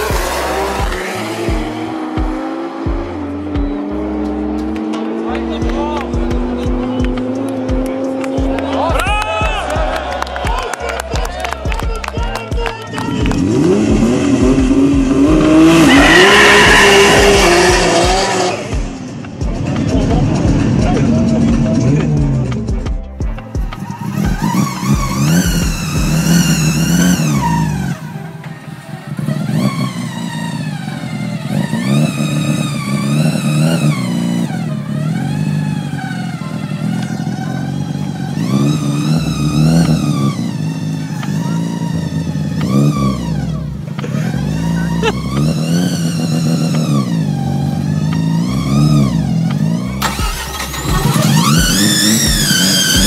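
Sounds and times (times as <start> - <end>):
rotary engine revving: 0.0 - 8.8, 12.9 - 22.7, 23.7 - 53.0.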